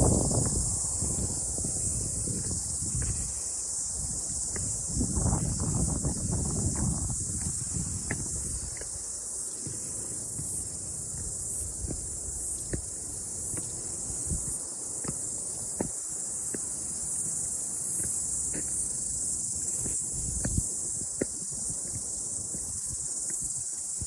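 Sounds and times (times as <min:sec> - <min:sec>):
cicadas singing: 0:00.0 - 0:24.0.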